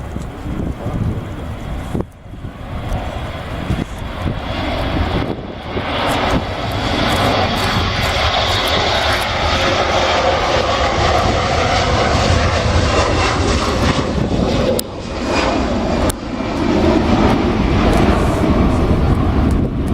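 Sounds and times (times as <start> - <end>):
jet engines roaring: 0.0 - 19.9.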